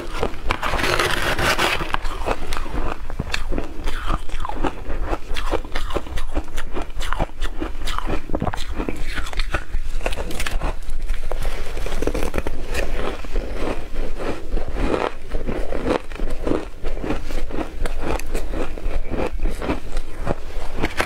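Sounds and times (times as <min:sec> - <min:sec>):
crunching shaved ice: 0:00.0 - 0:21.0.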